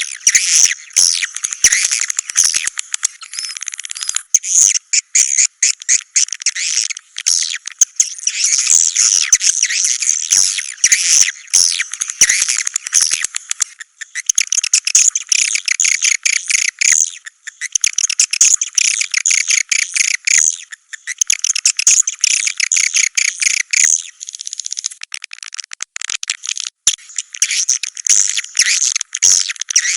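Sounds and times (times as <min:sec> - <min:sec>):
swiftlets twittering chirps: 0:00.0 - 0:25.0.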